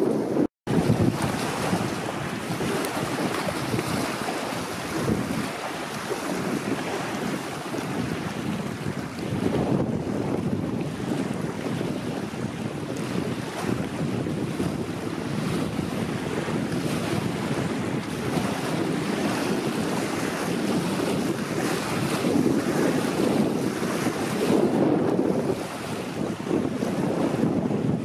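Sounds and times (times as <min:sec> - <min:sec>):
wind buffeting microphone: 0:00.0 - 0:28.0
waves lapping on gravel shore: 0:00.7 - 0:27.7.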